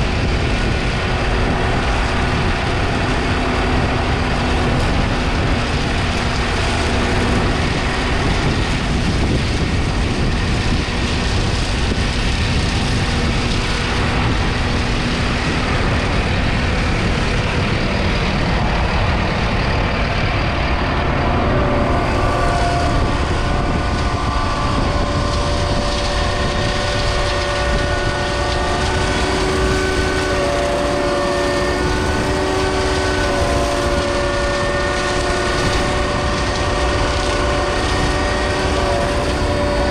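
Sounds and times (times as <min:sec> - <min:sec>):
diesel engine running: 0:00.0 - 0:39.9
steady whining tones: 0:00.0 - 0:39.9.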